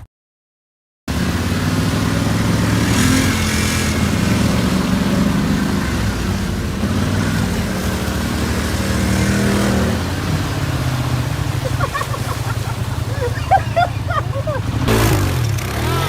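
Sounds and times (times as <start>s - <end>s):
off-road vehicle engine running: 1.1s - 16.0s.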